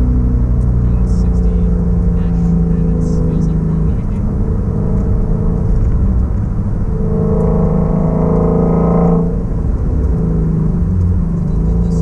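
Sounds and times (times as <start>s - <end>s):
car engine while driving: 0.0s - 12.0s.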